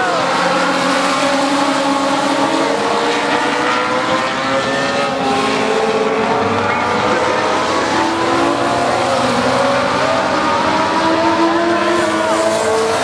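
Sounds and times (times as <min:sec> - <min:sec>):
race car engines revving high: 0:00.0 - 0:13.0.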